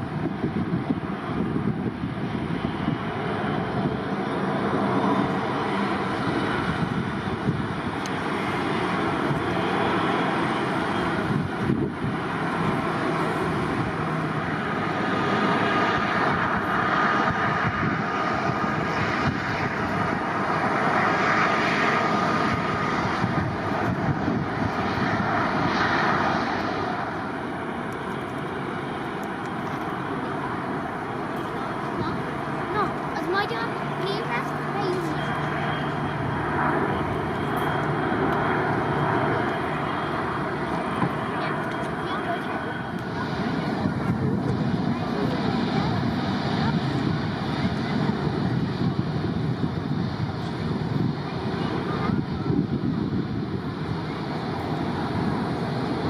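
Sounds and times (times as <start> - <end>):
jet engines passing: 0.0 - 56.0.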